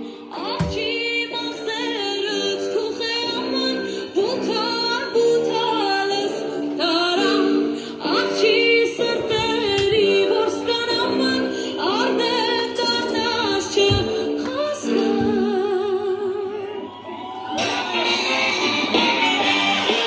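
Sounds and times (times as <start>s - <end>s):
woman singing a song: 0.0s - 16.9s.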